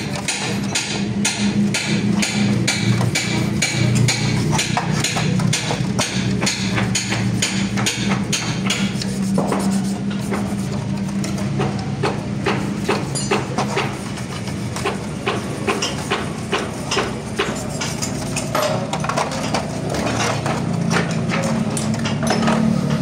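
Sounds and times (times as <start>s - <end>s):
hand scraper rasping on metal: 0.0s - 20.5s
steady low hum: 0.0s - 23.0s.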